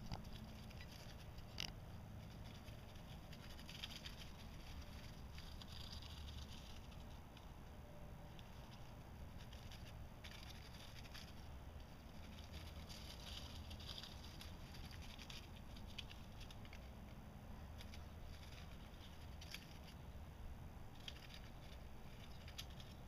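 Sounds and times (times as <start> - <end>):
small animal rustling dry leaves: 0.0 - 23.0.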